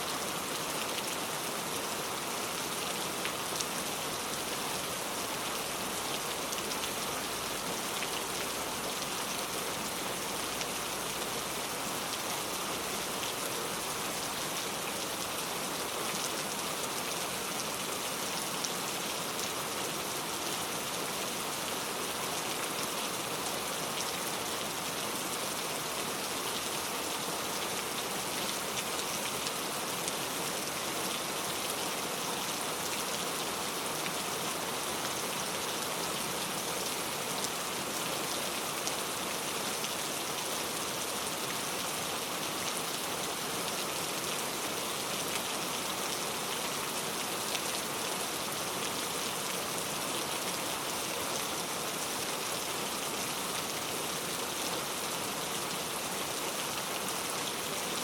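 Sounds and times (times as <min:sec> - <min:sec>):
heavy rain on a road: 0:00.0 - 0:58.0.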